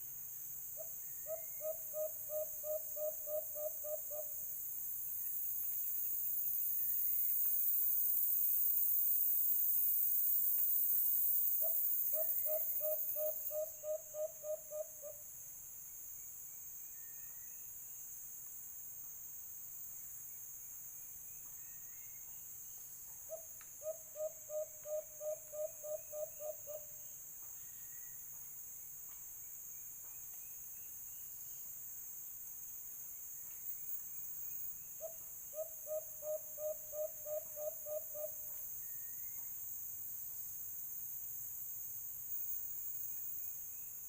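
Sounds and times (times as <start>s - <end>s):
high insect drone: 0.0s - 44.0s.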